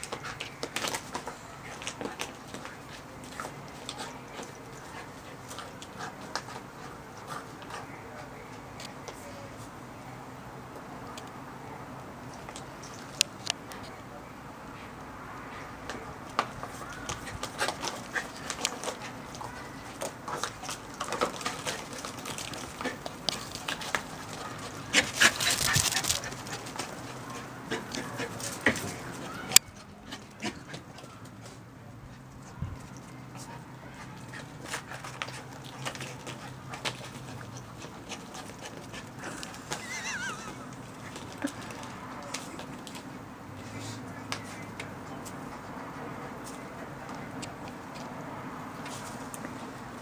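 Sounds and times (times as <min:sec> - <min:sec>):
puppy paws tapping and scuffling: 0:00.0 - 0:09.2, 0:15.8 - 0:50.0.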